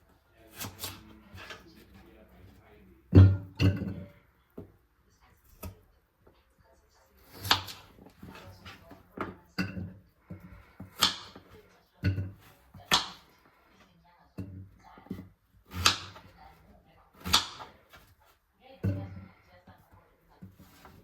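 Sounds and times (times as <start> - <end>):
kitchen items knocking and banging: 0.0 - 4.8, 7.2 - 13.6, 14.3 - 21.0.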